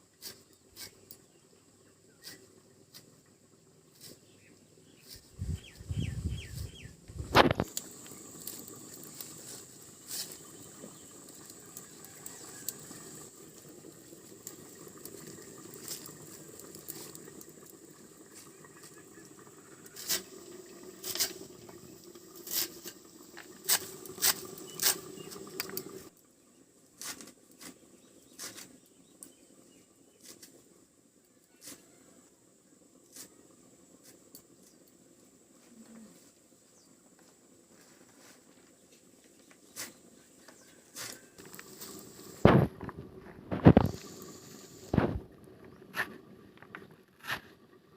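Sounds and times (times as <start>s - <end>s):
steady low hiss: 0.0s - 47.9s.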